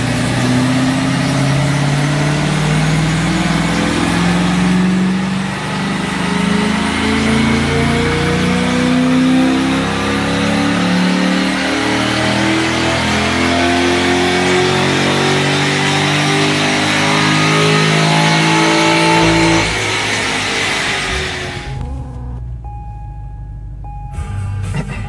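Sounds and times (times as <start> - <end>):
car engine revving on dyno: 0.0 - 22.2.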